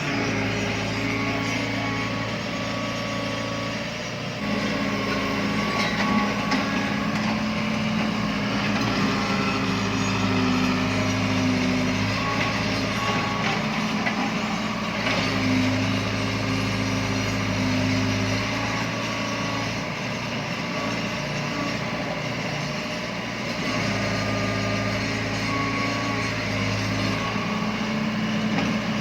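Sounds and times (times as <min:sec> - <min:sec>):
heavy machine engine running: 0:00.0 - 0:29.0.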